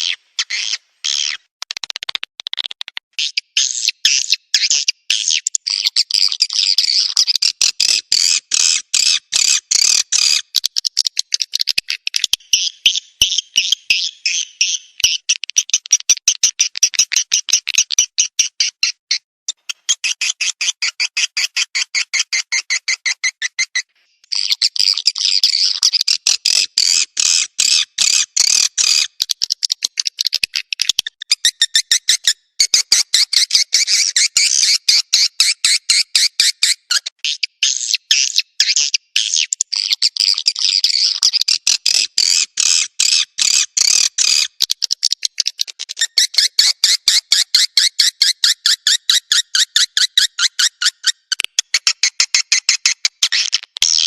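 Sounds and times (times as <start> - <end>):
recorded swiftlet twittering: 3.2 - 54.0.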